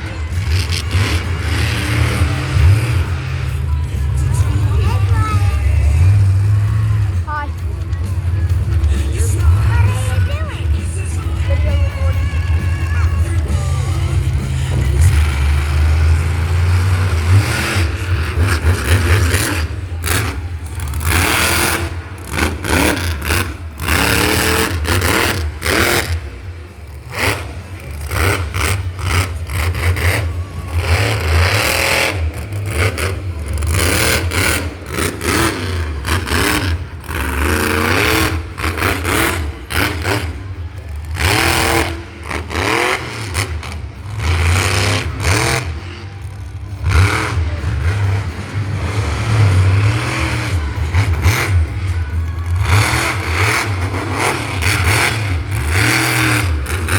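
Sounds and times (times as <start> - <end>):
engines revving hard: 0.0 - 56.9.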